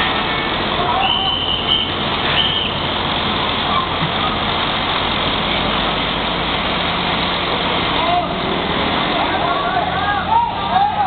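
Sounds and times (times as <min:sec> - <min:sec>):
heavy vehicle engines idling: 0:00.0 - 0:11.0
street traffic noise: 0:00.0 - 0:11.0.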